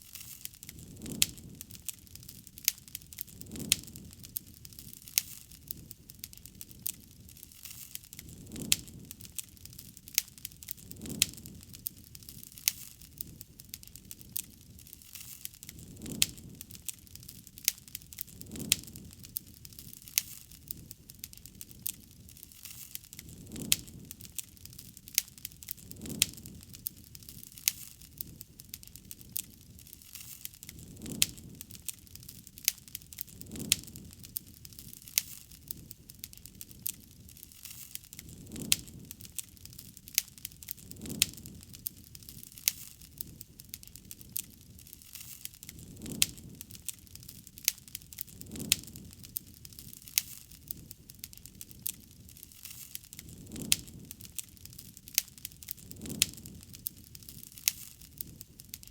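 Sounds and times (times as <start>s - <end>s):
flame swelling softly: 0.0s - 58.8s
wood fire crackling: 0.0s - 58.9s.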